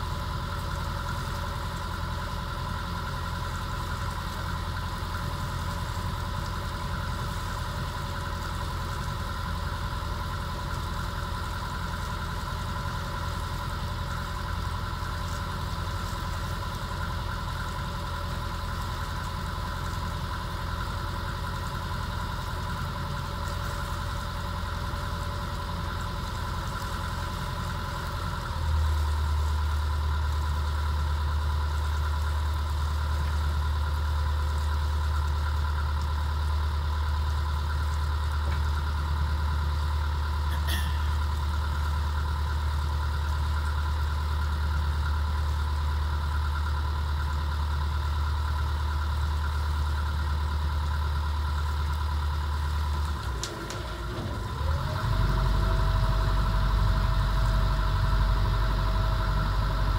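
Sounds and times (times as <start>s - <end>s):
boat diesel engine humming: 0.0s - 59.9s.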